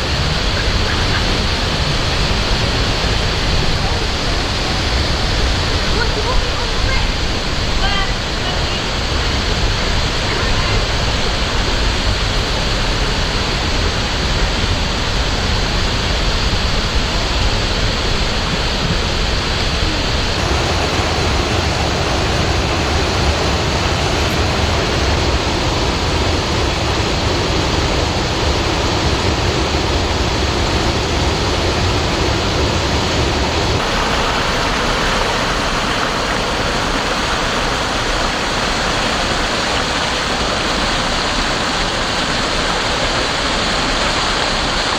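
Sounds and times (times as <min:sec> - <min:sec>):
rushing water roar: 0:00.0 - 0:44.9.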